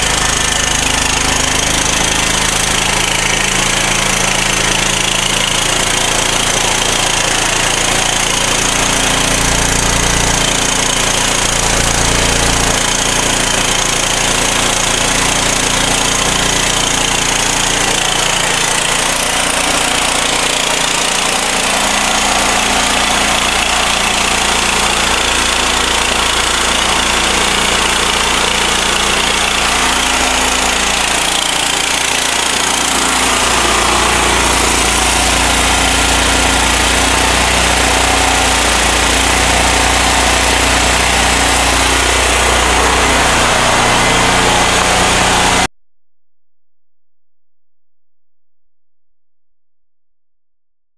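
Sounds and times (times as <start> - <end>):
generator engine running: 0.0 - 45.7.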